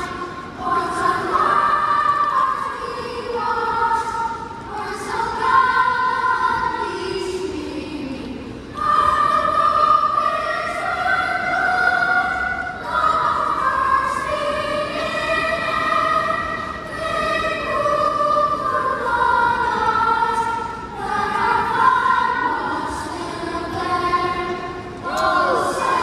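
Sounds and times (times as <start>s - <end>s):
choir singing long held notes: 0.0s - 26.0s.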